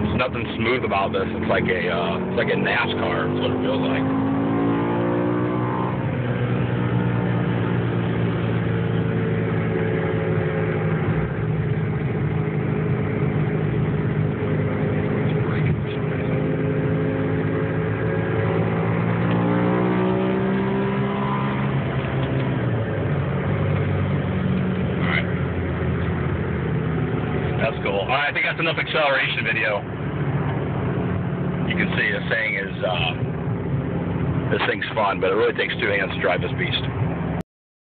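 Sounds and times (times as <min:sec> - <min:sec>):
car engine accelerating hard: 0:00.0 - 0:37.4.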